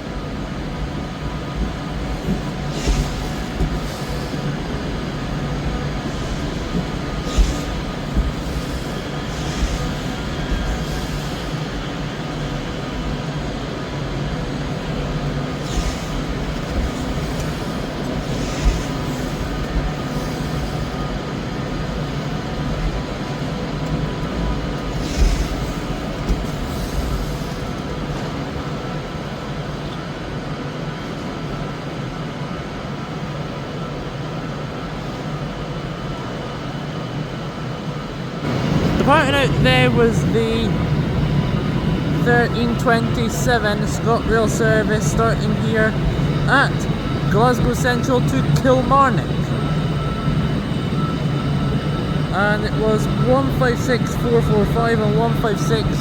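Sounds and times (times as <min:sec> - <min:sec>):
train engine hum and rumble: 0:00.0 - 0:56.0.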